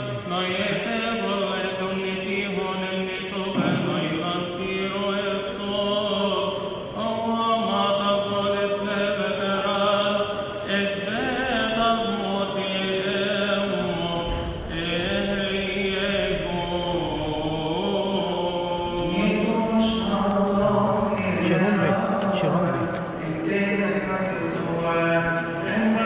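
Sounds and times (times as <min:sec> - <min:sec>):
man chanting a hymn: 0:00.0 - 0:26.0.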